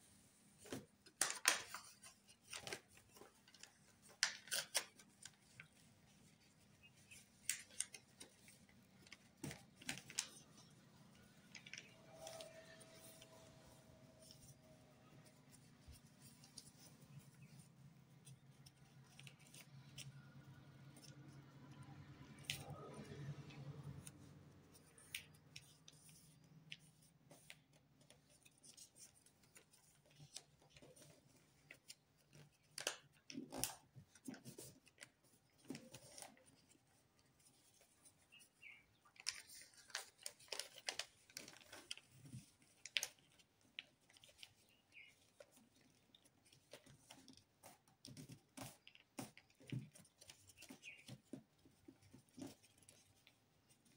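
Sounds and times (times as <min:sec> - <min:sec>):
paper rustling and crinkling: 0:00.5 - 0:21.3, 0:22.4 - 0:53.9.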